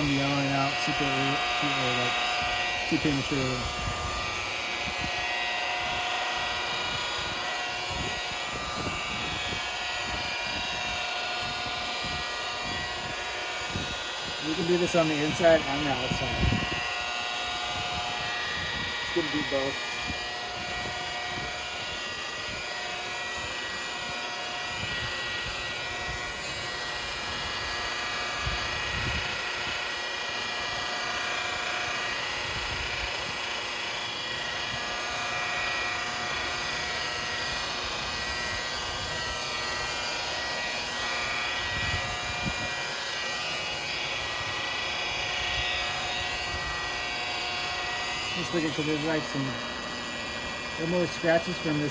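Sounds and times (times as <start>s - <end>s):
electric polisher motor whine: 0.0s - 51.9s.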